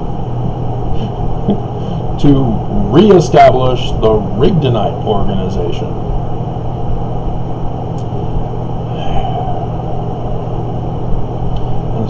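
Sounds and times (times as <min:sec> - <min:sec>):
rumbling background noise: 0:00.0 - 0:12.0
steady low hum: 0:00.0 - 0:12.0.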